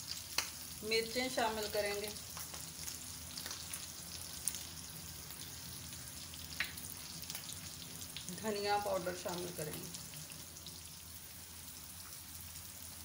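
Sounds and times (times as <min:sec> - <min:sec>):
meat sizzling: 0:00.0 - 0:13.0.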